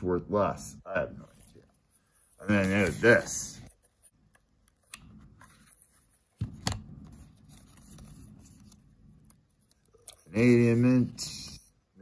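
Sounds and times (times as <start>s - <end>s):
card rustling: 1.2s - 11.8s.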